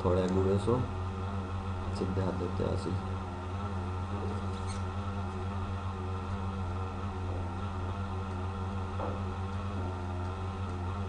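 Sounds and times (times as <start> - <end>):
faint wavering whine: 0.0 - 11.0
steady low hum: 0.0 - 11.0.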